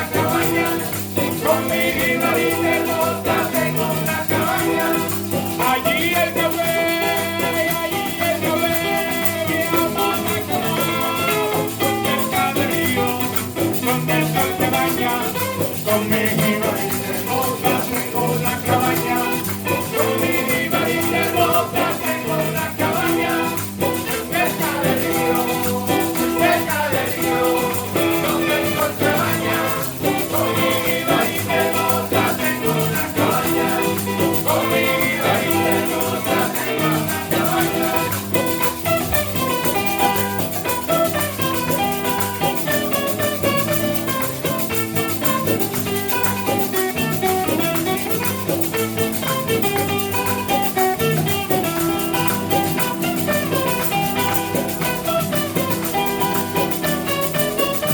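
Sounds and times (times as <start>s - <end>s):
latin music band playing: 0.0s - 57.9s
person singing: 0.0s - 57.9s.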